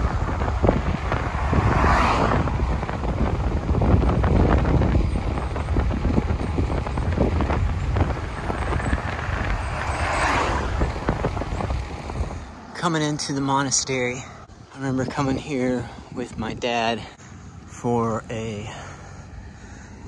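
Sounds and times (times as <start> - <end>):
car passing: 0.0 - 16.1, 17.0 - 20.0
wind buffeting microphone: 0.0 - 18.0.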